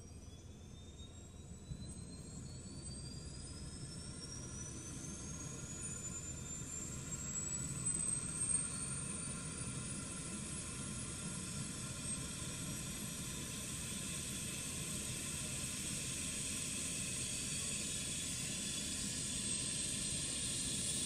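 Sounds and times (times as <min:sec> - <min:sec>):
helicopter turbine whine: 0:00.0 - 0:21.0.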